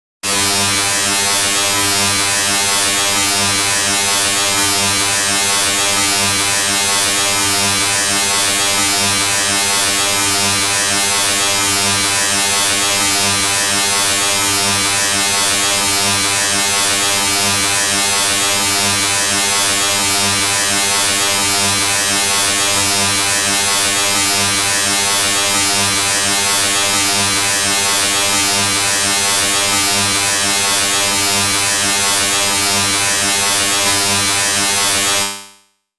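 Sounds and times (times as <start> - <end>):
loud electronic buzz with hiss: 0.3 - 35.2.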